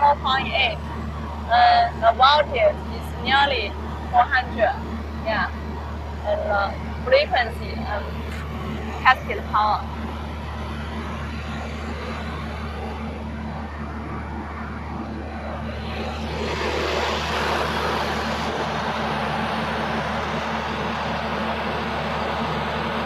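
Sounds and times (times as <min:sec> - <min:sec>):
cooling fans rushing air: 0:00.0 - 0:23.0
electrical machine hum: 0:00.0 - 0:23.0.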